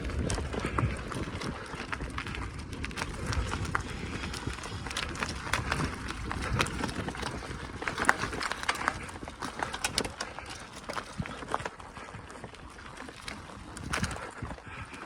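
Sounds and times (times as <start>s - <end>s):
bicycle tyres crunching: 0.0s - 15.0s
bike rattling with clicks: 0.0s - 15.0s.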